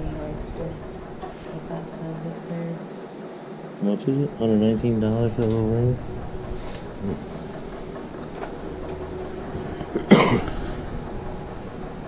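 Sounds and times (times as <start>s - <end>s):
indoor background hum: 0.0s - 12.0s.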